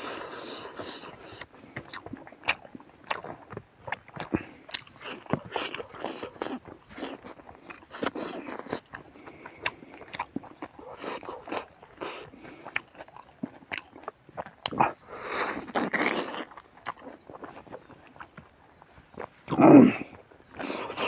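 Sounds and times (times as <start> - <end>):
man chewing and lip-smacking: 0.0 - 21.0.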